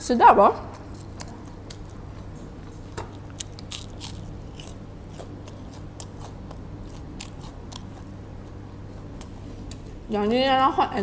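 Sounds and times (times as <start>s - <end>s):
crunchy chewing of fried shrimp: 0.8s - 10.1s.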